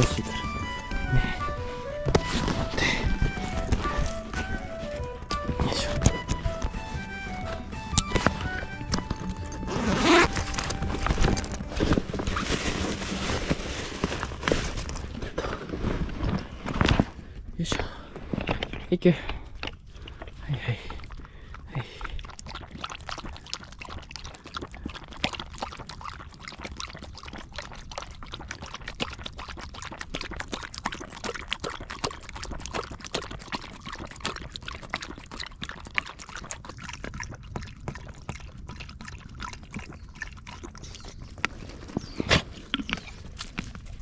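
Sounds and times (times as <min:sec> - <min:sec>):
dog lapping water: 0:00.0 - 0:13.4, 0:19.4 - 0:44.0.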